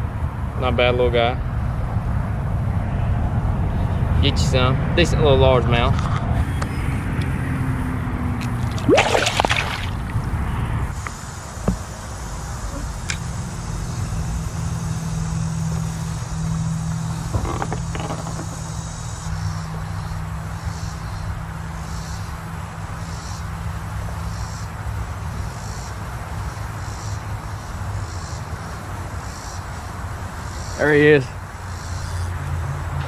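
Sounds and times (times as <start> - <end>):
highway traffic drone: 0.0 - 33.0.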